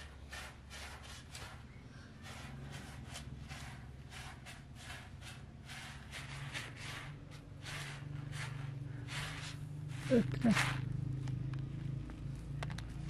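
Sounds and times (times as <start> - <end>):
rice grains rustling scrapes: 0.0 - 11.2.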